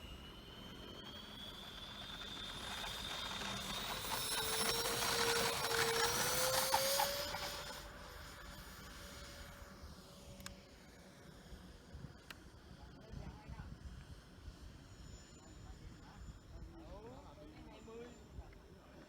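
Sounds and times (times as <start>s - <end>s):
model jet engines whining: 0.0s - 19.0s.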